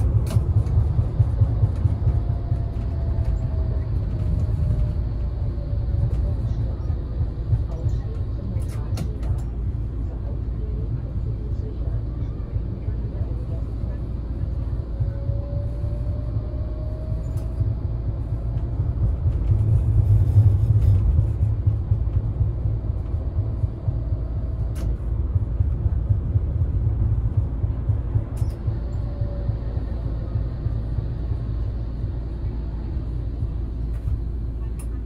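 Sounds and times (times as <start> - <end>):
tram wheels rumbling on rails: 0.0 - 35.0.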